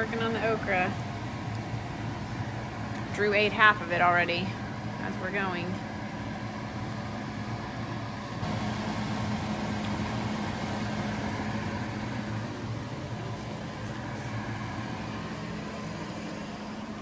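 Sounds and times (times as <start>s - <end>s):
low even hum: 0.0s - 17.0s.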